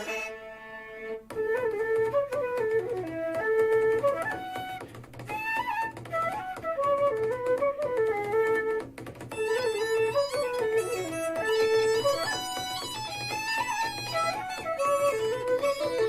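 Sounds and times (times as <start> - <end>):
flute melody from a small speaker: 0.0 - 16.0.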